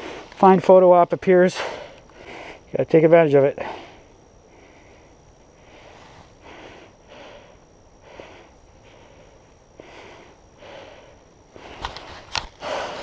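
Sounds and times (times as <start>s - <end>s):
person breathing: 1.6s - 2.7s, 3.6s - 13.0s.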